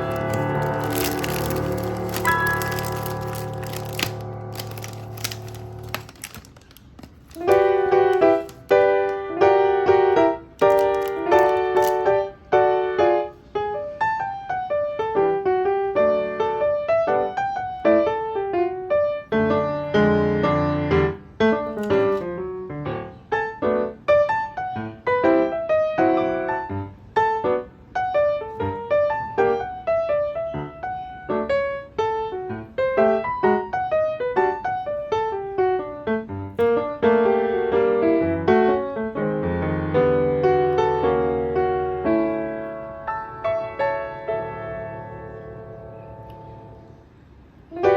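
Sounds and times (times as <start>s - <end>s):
gentle piano music: 0.0s - 47.9s.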